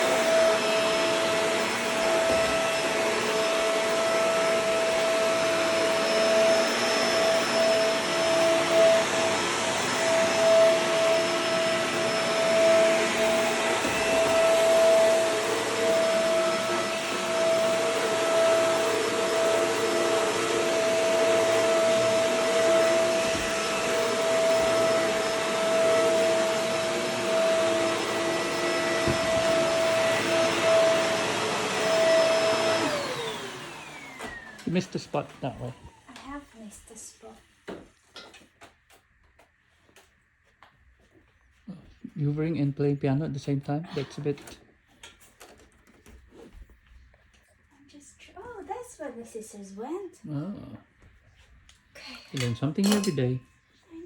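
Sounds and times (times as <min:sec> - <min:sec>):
vacuum cleaner running: 0:00.0 - 0:37.9, 0:41.5 - 0:46.8, 0:48.3 - 0:54.0.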